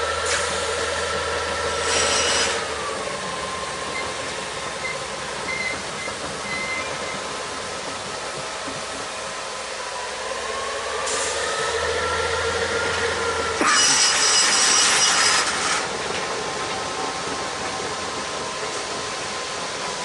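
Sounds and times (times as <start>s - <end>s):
diesel locomotive engine idling: 0.0s - 20.0s.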